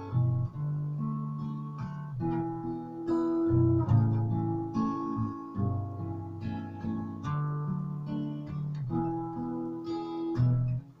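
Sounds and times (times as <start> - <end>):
acoustic guitar strummed: 0.0 - 11.0.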